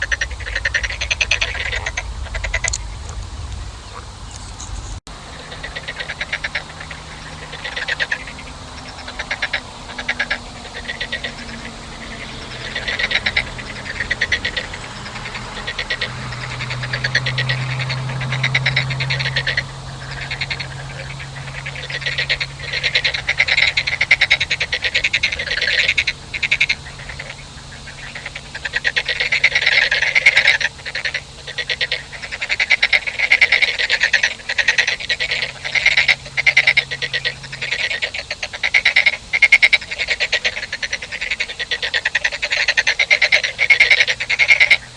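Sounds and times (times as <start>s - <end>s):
frogs calling: 0.0s - 44.9s
low steady hum: 0.0s - 44.9s.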